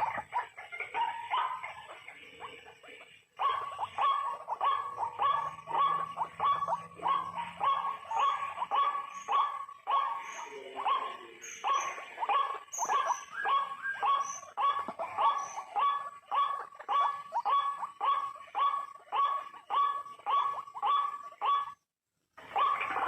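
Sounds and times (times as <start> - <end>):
waterhen calling: 0.0 - 21.8, 22.4 - 23.0.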